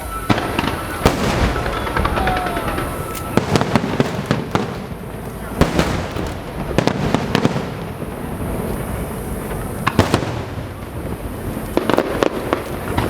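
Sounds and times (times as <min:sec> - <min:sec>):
fireworks bangs: 0:00.0 - 0:13.0
rumble of distant fireworks: 0:00.0 - 0:13.0.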